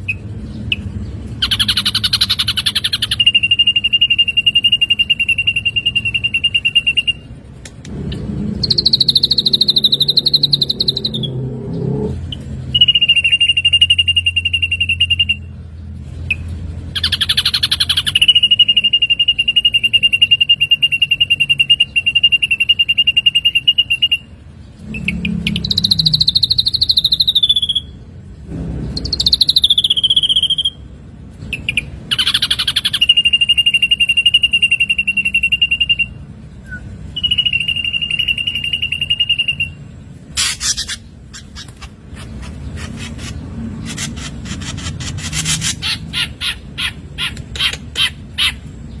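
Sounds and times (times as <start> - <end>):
bird whistling and trilling: 0.0 - 7.4, 8.6 - 11.5, 12.3 - 15.6, 16.3 - 28.0, 29.0 - 30.9, 31.5 - 49.0.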